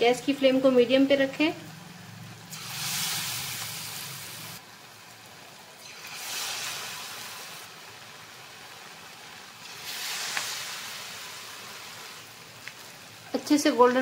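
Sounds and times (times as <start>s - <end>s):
potato wedges sizzling in hot oil: 0.0s - 14.0s.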